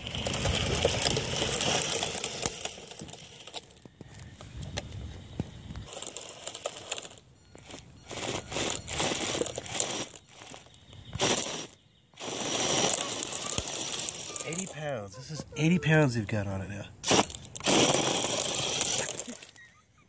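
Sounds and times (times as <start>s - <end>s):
sled and tyres scraping on asphalt: 0.0s - 19.6s.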